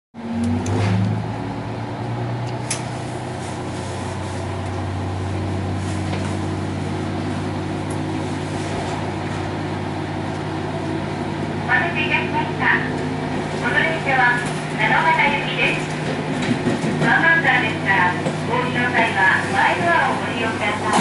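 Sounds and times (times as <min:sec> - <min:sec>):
diesel railcar engine running: 0:00.2 - 0:21.0.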